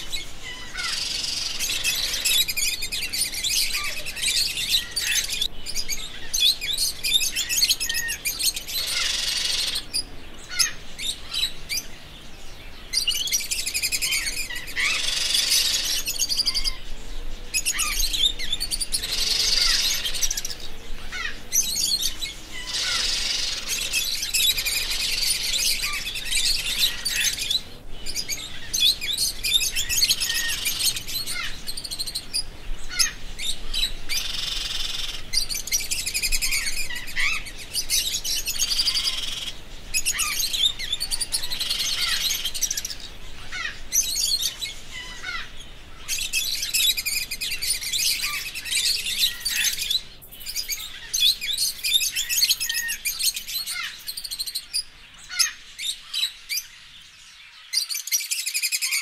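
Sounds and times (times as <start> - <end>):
parrots chirping: 0.0 - 11.9, 12.9 - 16.8, 17.5 - 59.0.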